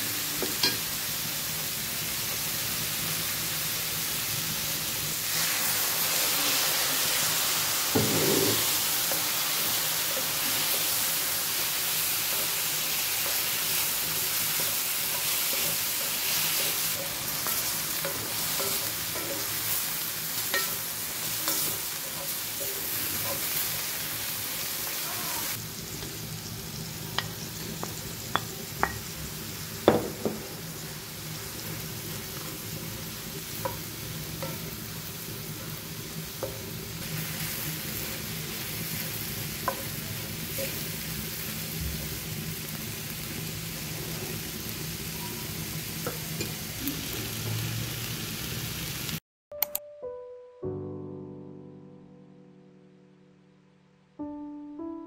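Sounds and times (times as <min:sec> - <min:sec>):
food sizzling in a hot pan: 0:00.0 - 0:49.2.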